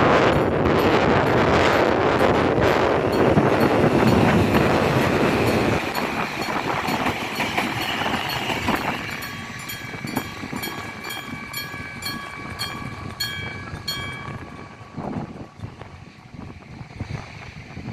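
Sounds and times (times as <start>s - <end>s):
level crossing bell ringing: 0.0s - 15.2s
train passing: 0.0s - 17.9s.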